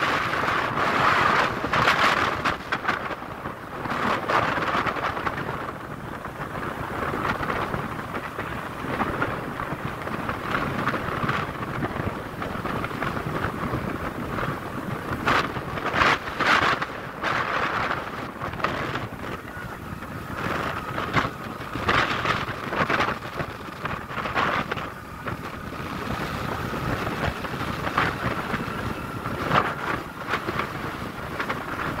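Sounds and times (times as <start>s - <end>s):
faint steady whine: 0.0s - 32.0s
vehicle running noise: 0.0s - 32.0s
wind buffeting microphone: 0.0s - 32.0s.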